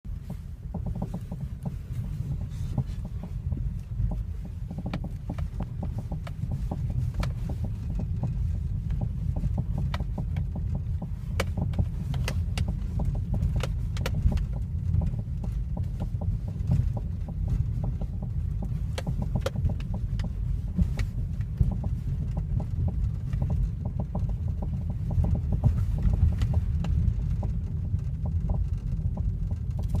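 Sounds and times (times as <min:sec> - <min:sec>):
road rumble: 0:00.0 - 0:30.0
sharp knocks from car: 0:00.2 - 0:30.0.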